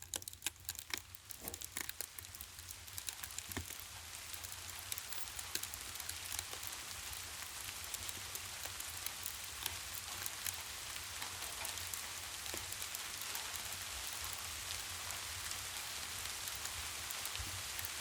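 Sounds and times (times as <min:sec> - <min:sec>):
raindrops ticking: 0:00.0 - 0:18.0
rain hiss: 0:01.1 - 0:18.0.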